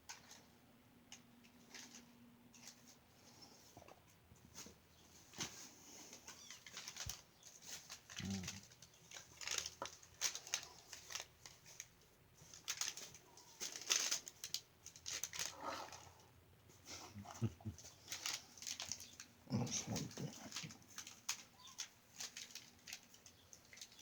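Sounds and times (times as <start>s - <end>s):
rustling and scratching: 0.0s - 24.0s.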